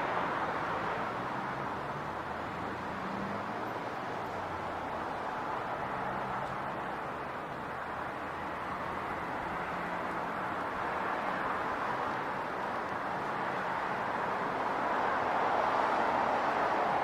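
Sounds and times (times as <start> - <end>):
passing cars and engines: 0.0 - 17.0.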